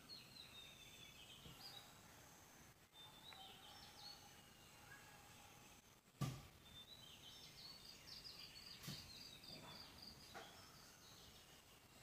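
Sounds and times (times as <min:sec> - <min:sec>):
faint distant bird chirps: 0:00.0 - 0:12.0.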